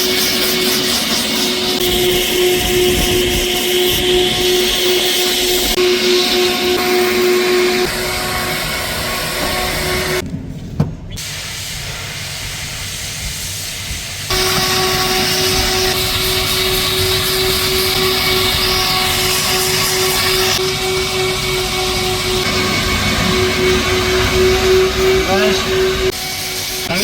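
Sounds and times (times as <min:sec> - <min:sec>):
pressure washer spraying: 0:00.0 - 0:10.2, 0:11.2 - 0:27.0.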